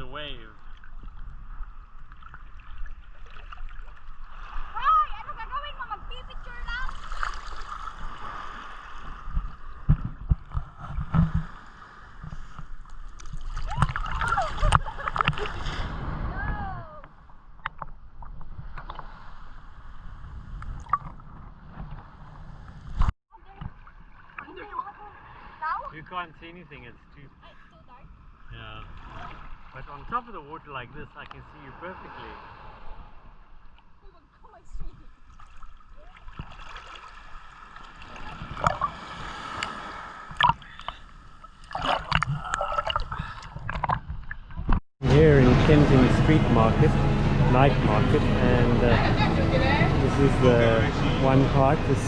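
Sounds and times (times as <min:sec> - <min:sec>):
muffled water sloshing: 0:00.0 - 0:52.0.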